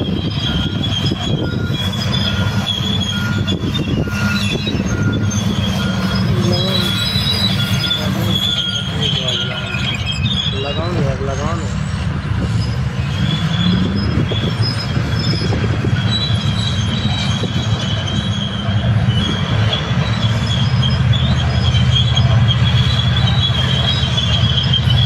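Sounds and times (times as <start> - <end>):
deep diesel engine rumble: 0.0 - 25.0
high-pitched metallic track squeal: 0.0 - 25.0.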